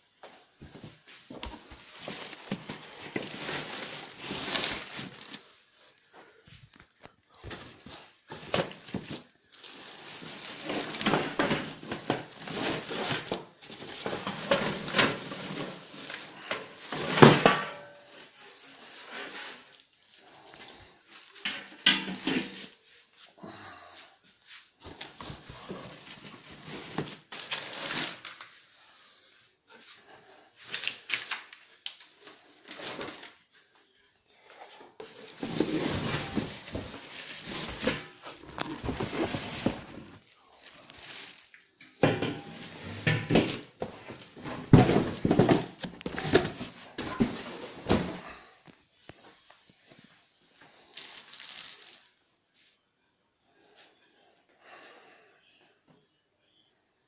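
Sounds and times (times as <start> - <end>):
plastic and paper crinkling: 0.5 - 23.2, 24.8 - 28.8, 30.6 - 34.0, 35.0 - 52.2.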